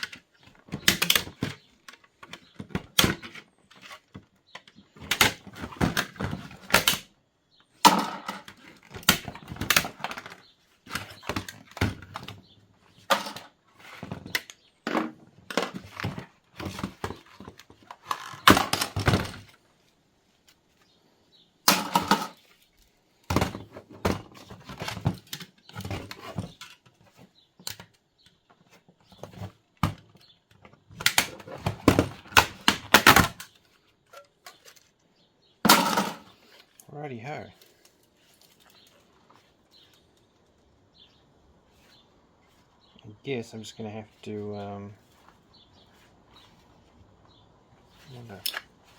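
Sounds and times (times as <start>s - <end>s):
plastic and metal parts clattering: 0.0s - 20.6s, 21.6s - 36.8s, 37.4s - 40.7s, 47.9s - 48.9s.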